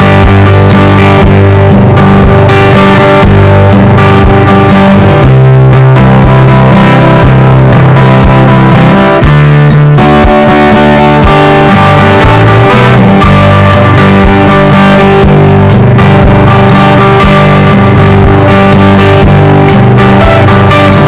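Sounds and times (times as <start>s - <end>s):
guitar music over a beat: 0.0s - 21.0s.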